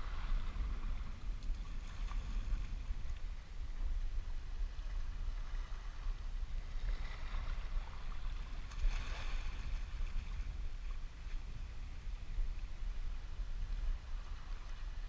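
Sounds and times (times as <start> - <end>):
water lapping: 0.0 - 15.0
wind buffeting microphone: 0.0 - 15.0.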